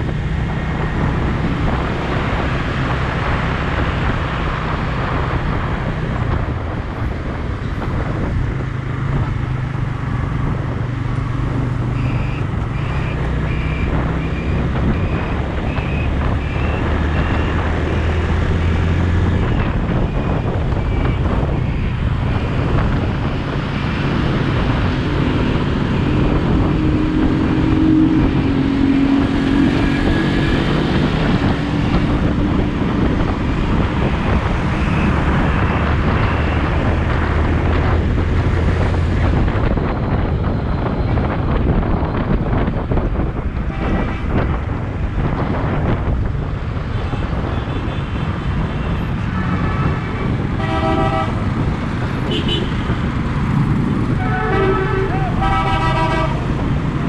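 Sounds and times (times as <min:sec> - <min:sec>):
vehicle noise: 0:00.0 - 0:57.0
wind buffeting microphone: 0:00.0 - 0:57.0.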